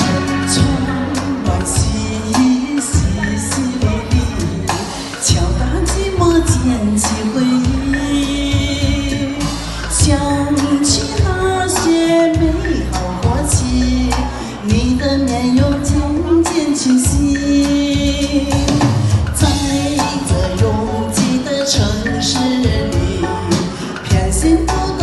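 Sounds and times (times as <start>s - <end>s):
backing music with drums: 0.0s - 25.0s
woman singing pop ballad: 0.0s - 25.0s.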